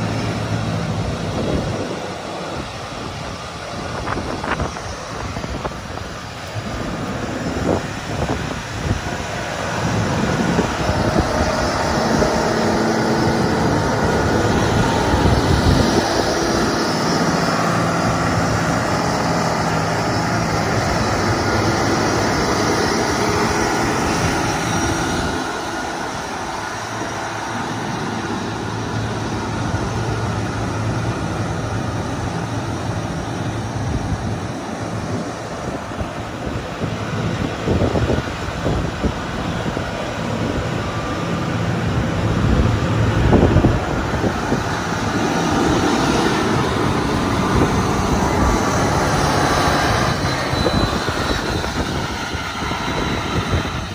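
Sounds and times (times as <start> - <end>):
tractor diesel engine driving past: 0.0 - 53.9.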